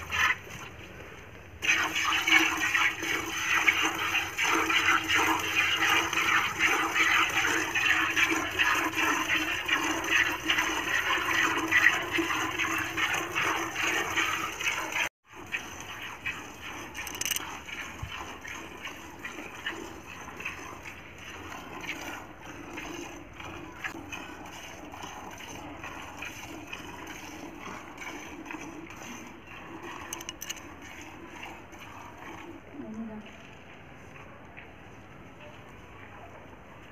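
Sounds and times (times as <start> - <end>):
milk squirting into plastic bucket: 0.0 - 33.5.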